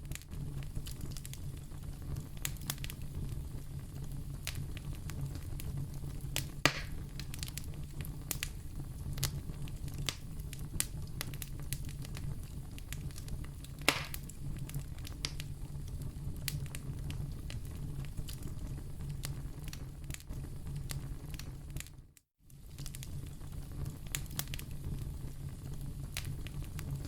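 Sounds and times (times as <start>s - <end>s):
fire crackling and popping: 0.0s - 27.0s
flames rumbling: 0.0s - 27.0s.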